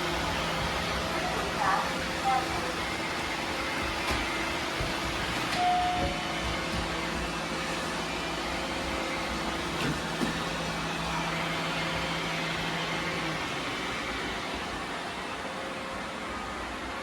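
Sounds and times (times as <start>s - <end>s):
robot vacuums whirring: 0.0s - 16.9s.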